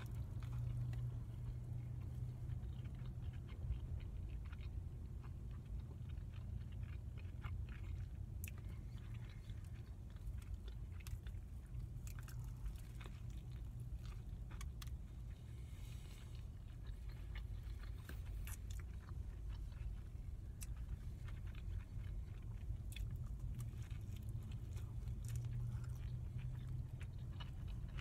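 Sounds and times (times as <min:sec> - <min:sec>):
person chewing food: 0:00.0 - 0:28.0
steady low hum: 0:00.0 - 0:28.0.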